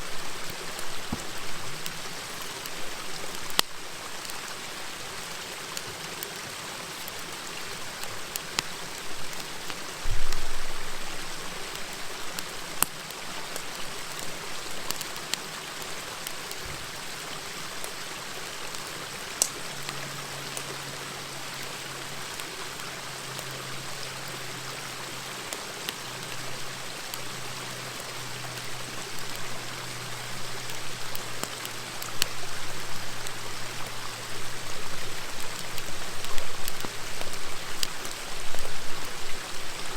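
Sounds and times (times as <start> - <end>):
campfire pops and crackles: 0.0 - 20.7, 21.5 - 39.9.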